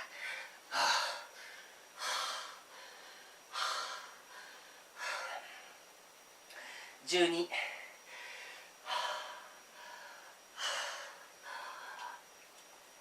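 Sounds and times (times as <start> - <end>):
man breathing hard: 0.0 - 5.8, 6.5 - 7.0, 7.6 - 12.3.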